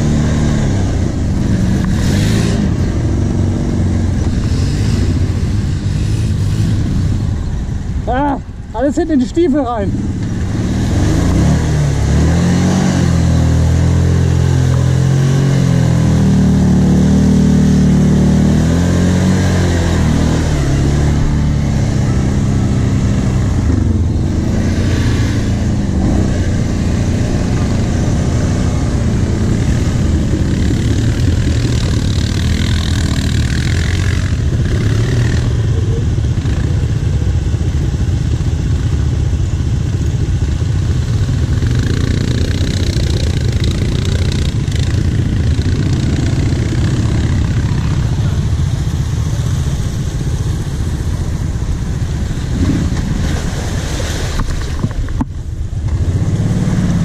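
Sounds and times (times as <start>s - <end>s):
atv engine running under load: 0.0s - 53.9s, 54.5s - 57.0s
water and mud splashing: 0.0s - 57.0s.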